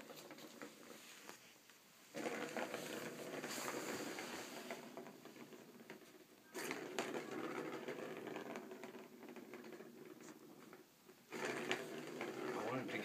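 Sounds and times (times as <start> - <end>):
plastic ball rolling rattling: 0.0 - 1.4, 2.1 - 13.0.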